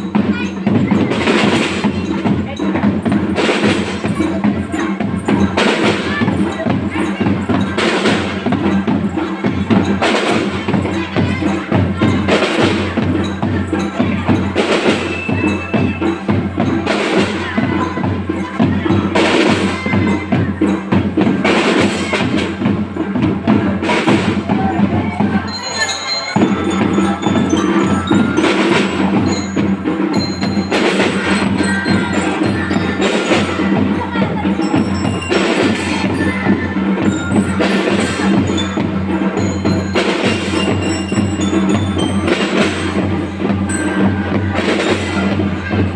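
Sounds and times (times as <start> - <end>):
fast drum rhythm: 0.0 - 45.9
mallet melody: 0.0 - 45.9.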